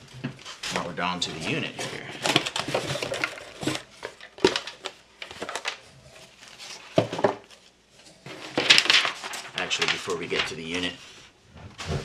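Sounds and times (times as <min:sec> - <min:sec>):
packaging rustling: 0:00.4 - 0:11.1.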